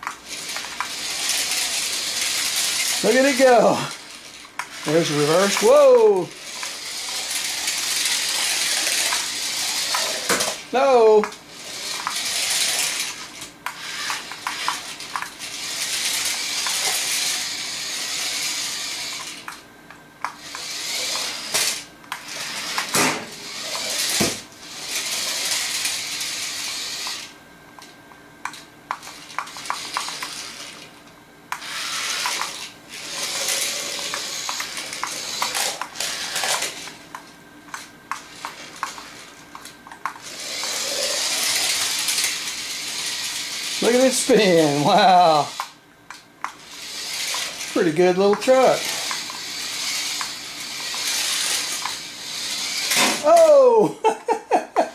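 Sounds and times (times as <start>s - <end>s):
toy truck motor whirring: 0.0s - 19.6s, 20.2s - 53.8s.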